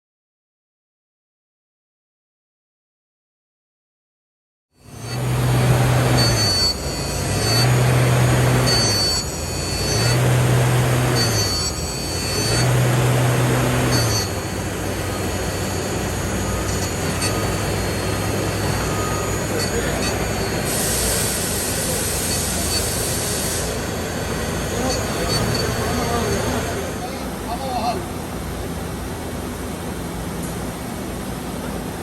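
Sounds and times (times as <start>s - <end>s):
industrial machinery humming and whining: 4.8s - 32.0s.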